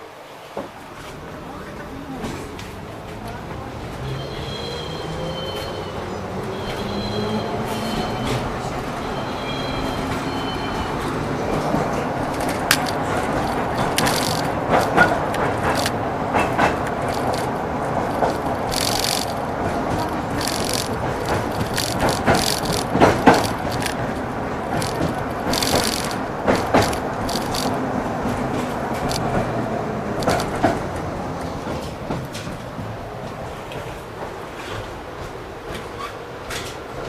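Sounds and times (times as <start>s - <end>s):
tram running gear rumble: 0.3s - 37.0s
wheels clacking over rail joints: 6.4s - 37.0s.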